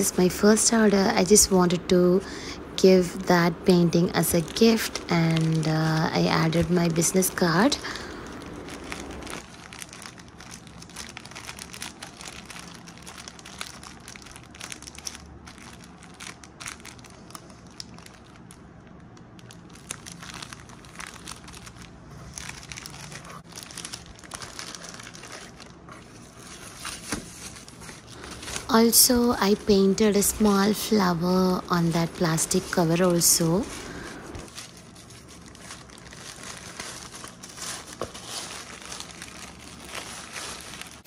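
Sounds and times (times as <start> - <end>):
plastic sleeve crinkling: 0.0 - 41.0.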